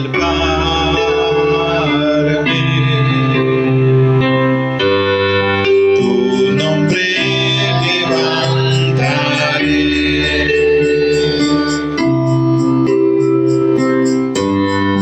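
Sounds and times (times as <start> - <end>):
organ keyboard worship music: 0.0 - 15.0.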